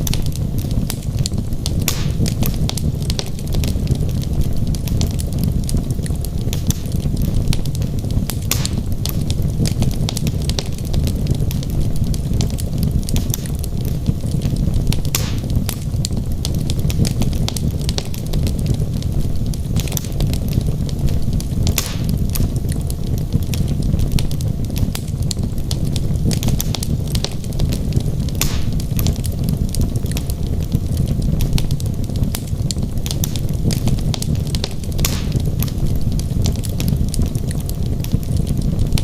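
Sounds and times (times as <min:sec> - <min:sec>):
fire crackling and popping: 0:00.0 - 0:39.0
fire rumbling: 0:00.0 - 0:39.0.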